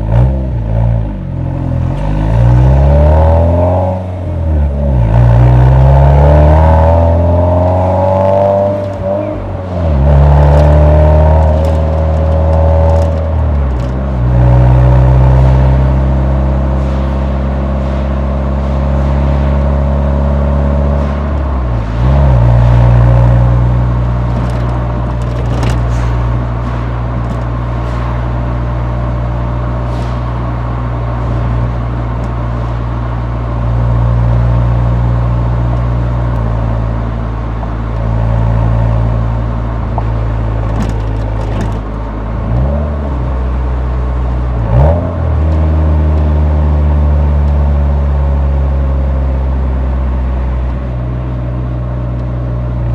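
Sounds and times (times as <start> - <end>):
car exhaust droning while driving: 0.0 - 52.9.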